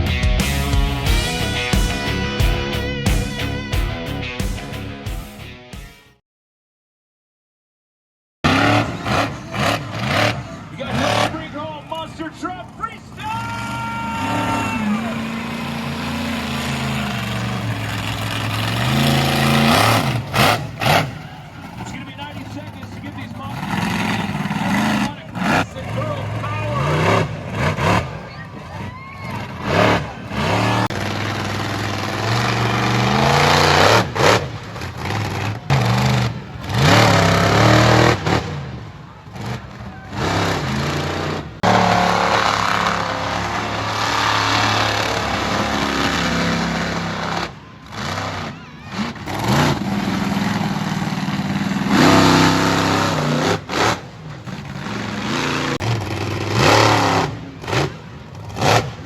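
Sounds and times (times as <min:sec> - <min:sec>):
truck engine revving: 0:00.0 - 0:05.6, 0:08.4 - 0:59.0
loud mechanical noise: 0:08.5 - 0:59.0.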